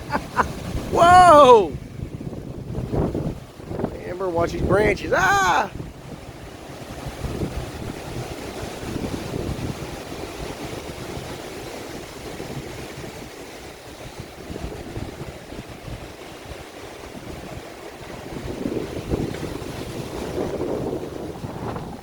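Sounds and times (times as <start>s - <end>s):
gusty wind buffeting microphone: 0.0s - 22.0s
wind rushing through trees: 0.0s - 22.0s.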